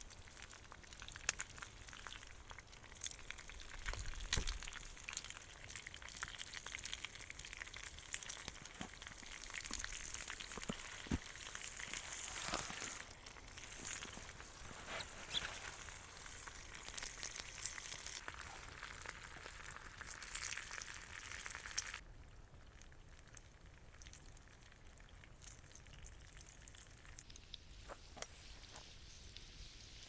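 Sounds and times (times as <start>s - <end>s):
food sizzling in a pan: 0.0s - 22.0s, 26.5s - 30.0s
campfire crackles and pops: 0.0s - 30.0s.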